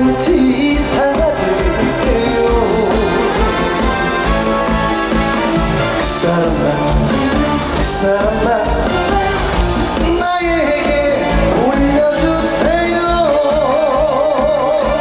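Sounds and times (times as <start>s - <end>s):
live band with vocals: 0.0s - 15.0s.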